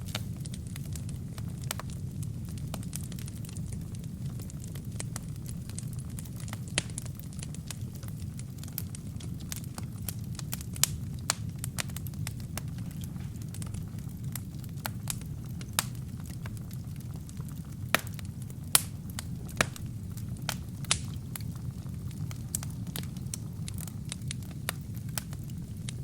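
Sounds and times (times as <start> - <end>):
fire flames rumbling: 0.0 - 26.0
wood crackling and popping: 0.0 - 26.0.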